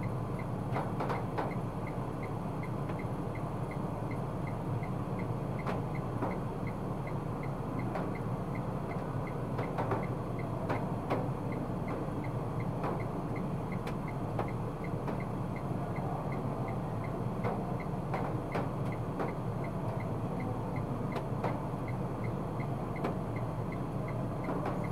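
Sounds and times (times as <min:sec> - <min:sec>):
indicator relay ticking: 0:00.4 - 0:17.9, 0:18.5 - 0:24.9.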